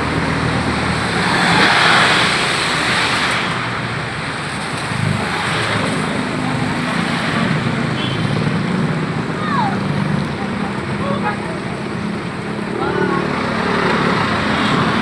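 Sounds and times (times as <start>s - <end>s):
car engines running: 0.0s - 15.0s
tyres rushing through water: 0.0s - 15.0s.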